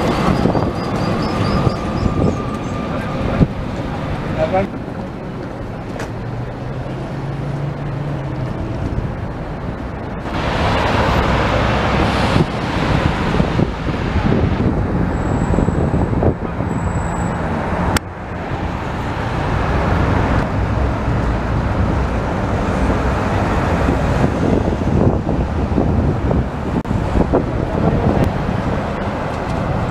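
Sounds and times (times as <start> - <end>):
cars passing: 0.0 - 29.9
low-floor tram passing: 0.0 - 29.9
trams passing: 0.0 - 29.9.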